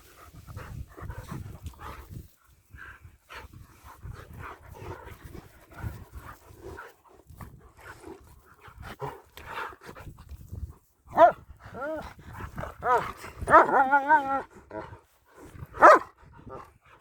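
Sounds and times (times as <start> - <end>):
dogs breathing and vocalizing: 0.0 - 17.0.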